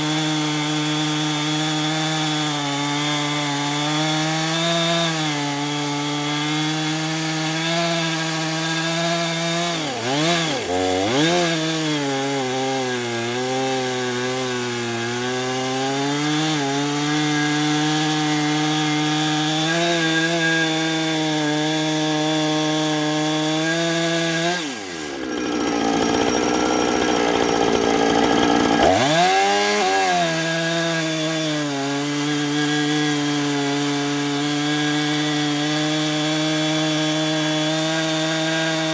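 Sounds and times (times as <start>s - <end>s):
chainsaw ripping a log: 0.0s - 38.9s.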